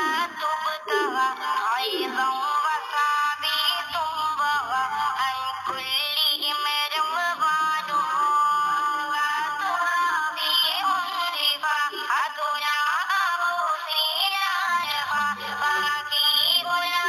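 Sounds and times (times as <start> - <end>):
song with singing voice: 0.0 - 17.0.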